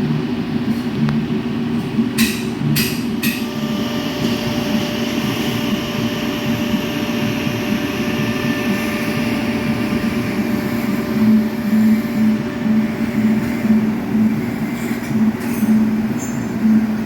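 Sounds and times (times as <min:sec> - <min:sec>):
low pulsing hum: 0:00.0 - 0:17.0
welding arc buzzing hiss: 0:00.0 - 0:17.0.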